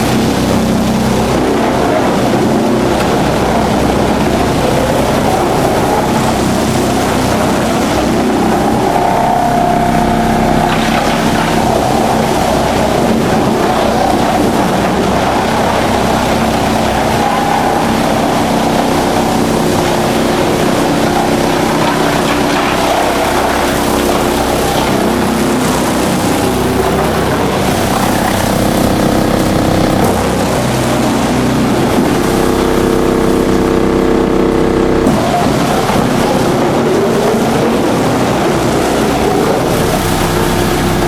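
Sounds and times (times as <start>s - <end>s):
wood chipper running: 0.0s - 41.0s.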